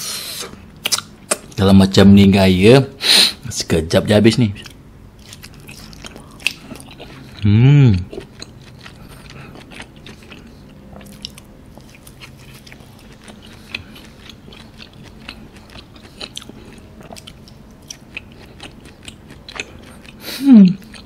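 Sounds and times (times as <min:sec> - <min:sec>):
person chewing food: 0:00.8 - 0:01.6, 0:04.6 - 0:21.0.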